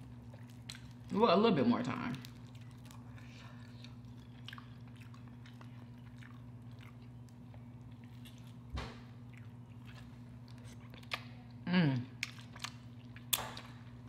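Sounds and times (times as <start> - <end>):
chewing: 0.0 - 1.2, 1.9 - 14.0
steady low hum: 0.0 - 14.0.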